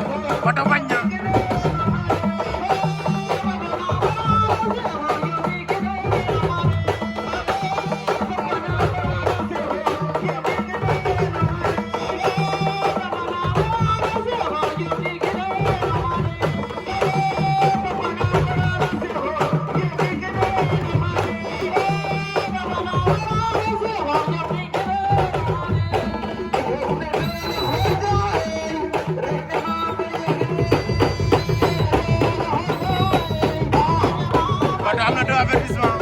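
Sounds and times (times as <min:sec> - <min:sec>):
person singing: 0:00.0 - 0:36.0
rapid hand drumming: 0:00.0 - 0:36.0.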